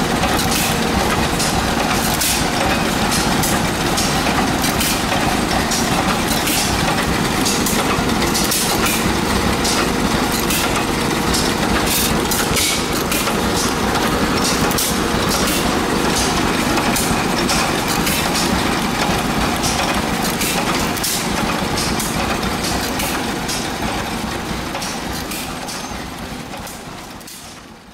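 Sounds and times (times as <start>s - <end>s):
old gas engines clattering: 0.0s - 27.9s.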